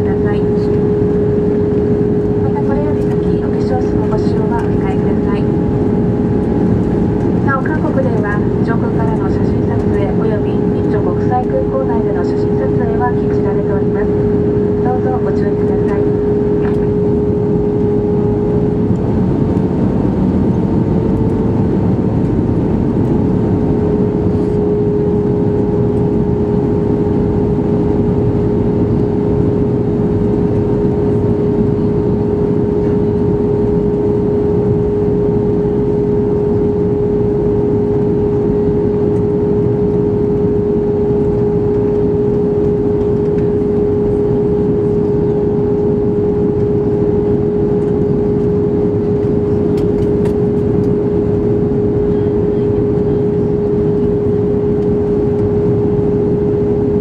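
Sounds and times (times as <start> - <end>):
airplane cabin engine rush: 0.0 - 57.0.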